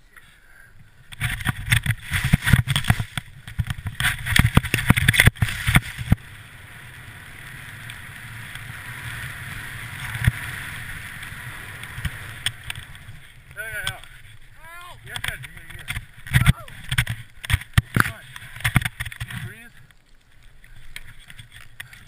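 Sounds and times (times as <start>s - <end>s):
gliding hiss over snow: 0.0s - 22.0s
wind: 0.0s - 22.0s
ski edges scraping on snow: 0.1s - 22.0s.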